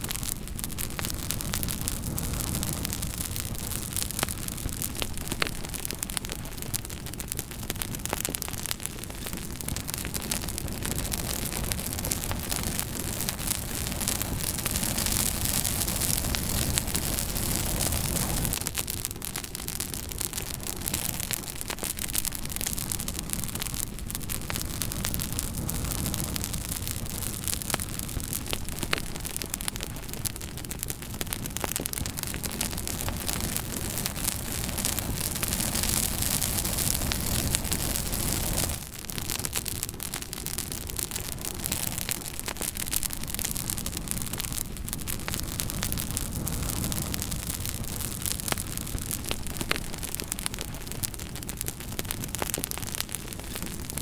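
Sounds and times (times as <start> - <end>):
fire crackling and popping: 0.0 - 54.0
fire hissing and rumbling: 0.0 - 54.0.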